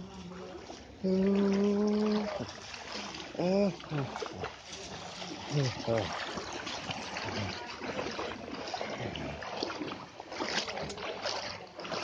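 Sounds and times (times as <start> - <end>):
floodwater sloshing: 0.0 - 12.0
water splashes: 0.0 - 12.0.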